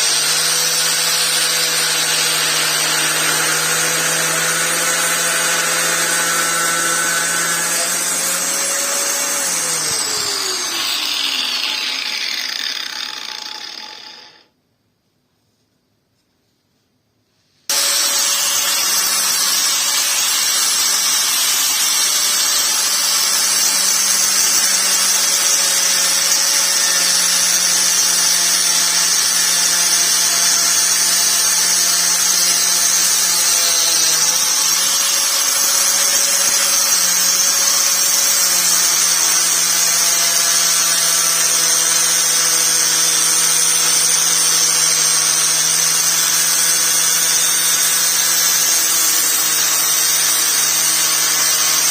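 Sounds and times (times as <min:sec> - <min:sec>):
angle grinder whining: 0:00.0 - 0:14.5, 0:17.7 - 0:51.9.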